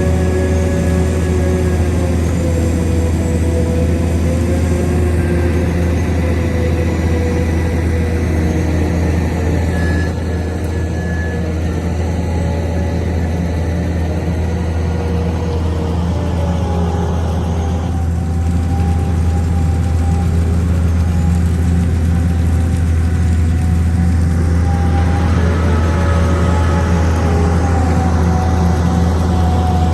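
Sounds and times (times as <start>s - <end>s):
construction machine engine running: 0.0s - 29.9s.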